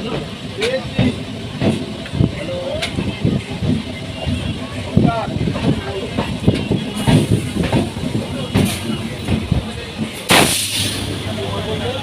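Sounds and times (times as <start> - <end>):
train wheels clacking on rails: 0.0 - 12.0.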